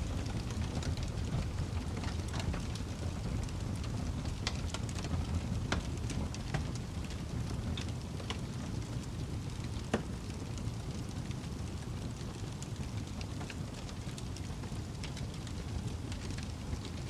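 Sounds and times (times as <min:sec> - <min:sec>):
low roar of flames: 0:00.0 - 0:17.0
wood fire crackling: 0:00.0 - 0:17.0.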